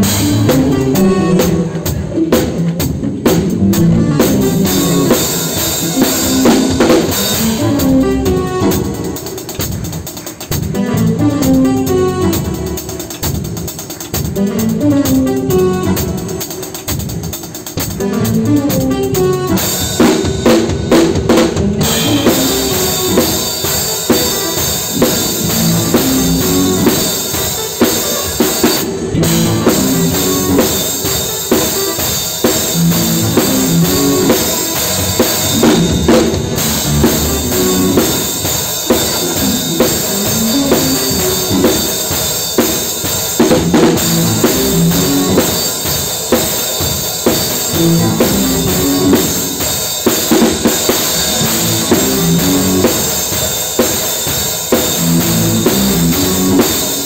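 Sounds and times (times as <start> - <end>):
drum kit: 0.0 - 57.0
keyboard accompaniment: 0.0 - 57.0.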